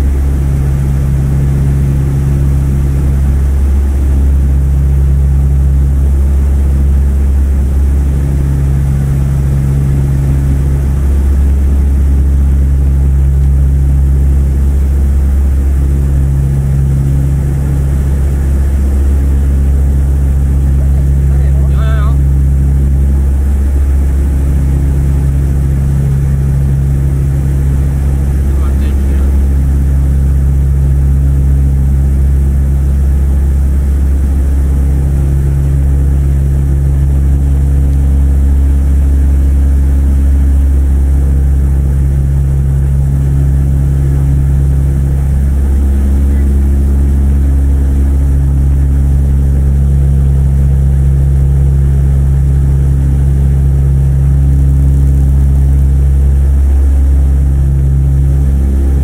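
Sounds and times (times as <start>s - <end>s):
aircraft cabin engine drone: 0.0s - 59.0s.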